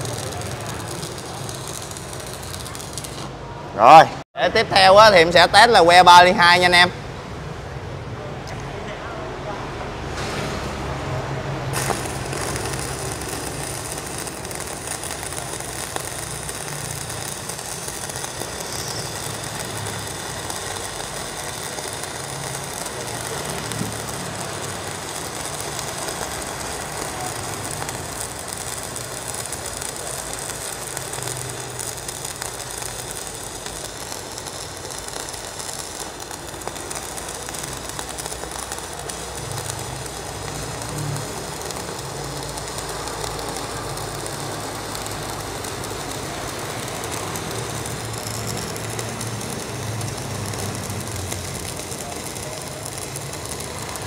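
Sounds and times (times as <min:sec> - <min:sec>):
welding arcs crackling: 0:00.0 - 0:04.1, 0:11.7 - 0:54.0.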